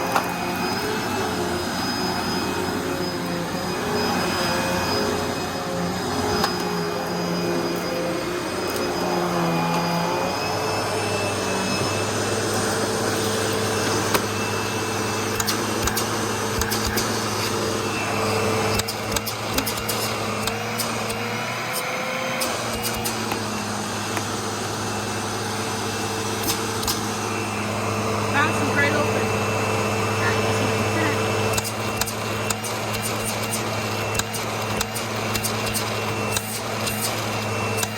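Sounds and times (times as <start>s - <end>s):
upright vacuum running: 0.0s - 37.9s.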